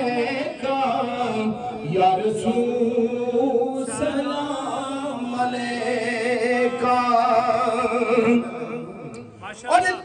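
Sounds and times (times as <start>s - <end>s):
men chanting unaccompanied: 0.0s - 9.2s.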